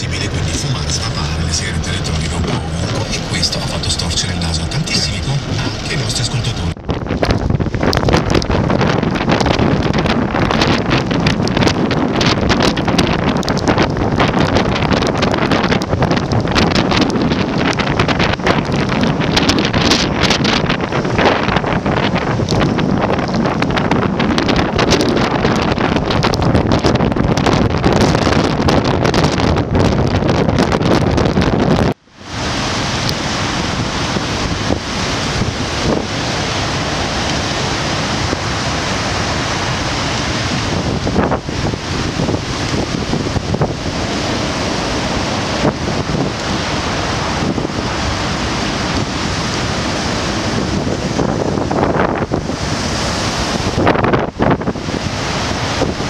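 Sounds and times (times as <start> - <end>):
storm surf rushing: 0.0 - 56.0
wind buffeting microphone: 0.0 - 56.0.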